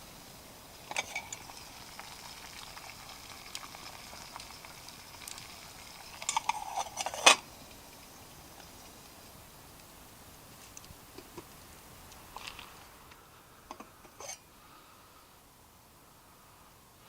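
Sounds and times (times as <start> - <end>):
water heating with faint hiss: 0.0 - 17.0.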